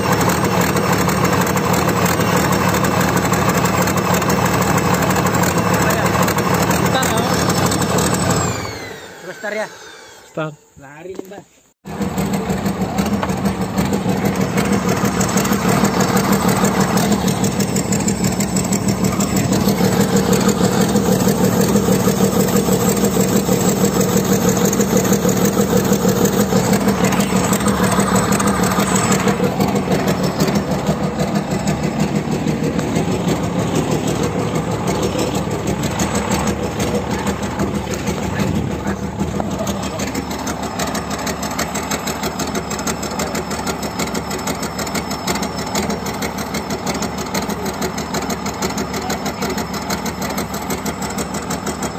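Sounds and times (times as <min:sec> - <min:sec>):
excavator diesel engine running: 0:00.0 - 0:10.3, 0:11.8 - 0:51.9.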